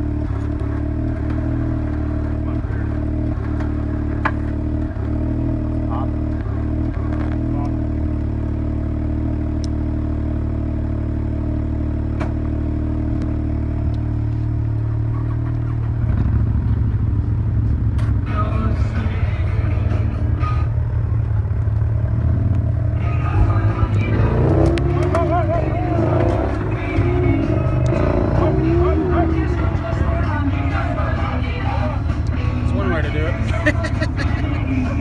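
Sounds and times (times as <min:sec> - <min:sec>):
off-road vehicle engine: 0:00.0 - 0:35.0.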